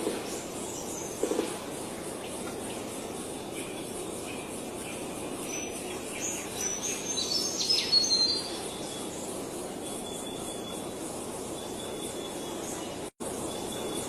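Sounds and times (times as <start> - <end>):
outdoor background hum: 0.0 - 14.0
songbirds chirping: 0.0 - 14.0.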